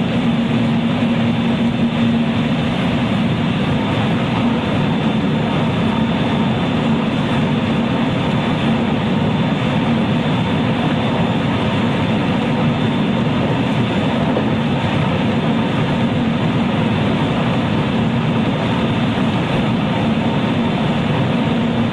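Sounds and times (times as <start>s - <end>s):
low hum of running gear: 0.0s - 21.9s.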